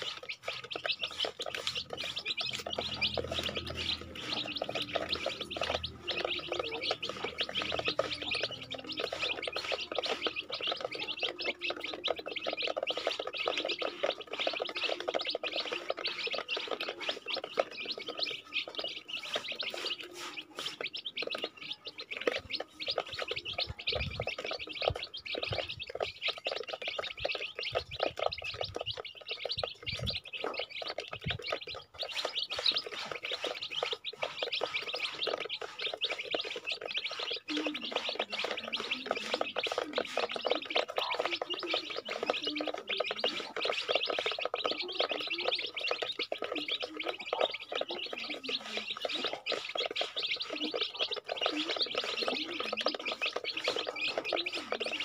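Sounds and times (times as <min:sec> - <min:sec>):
beaks pecking plastic feeder: 0:00.0 - 0:55.0
chicks peeping: 0:00.0 - 0:55.0.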